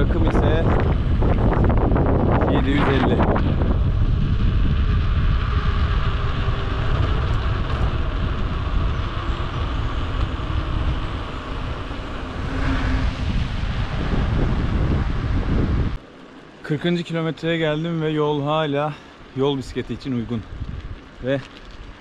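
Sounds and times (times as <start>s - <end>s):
wind buffeting microphone: 0.0s - 16.0s, 19.3s - 22.0s.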